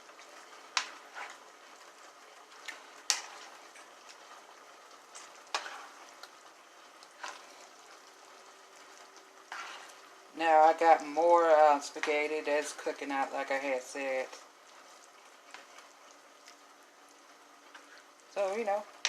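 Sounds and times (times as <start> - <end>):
food simmering in a pot: 0.0 - 19.0.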